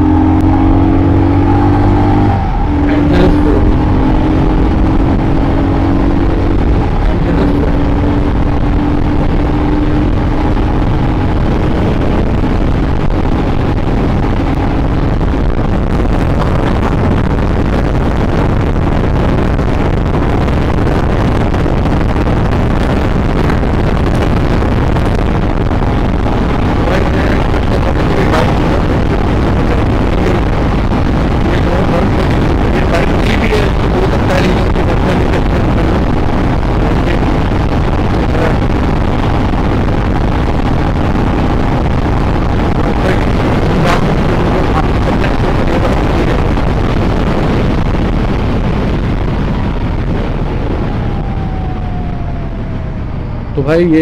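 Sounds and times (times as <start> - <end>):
motorcycle engine at full throttle: 0.0 - 54.0
wind noise: 0.0 - 54.0.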